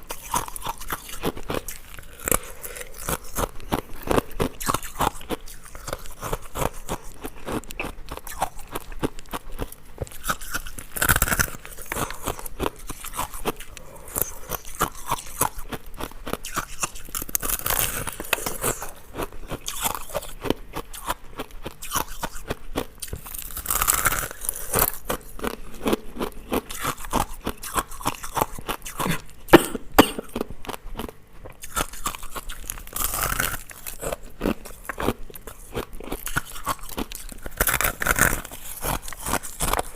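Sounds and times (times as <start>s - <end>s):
crunching bites: 0.0s - 29.4s, 30.1s - 39.9s.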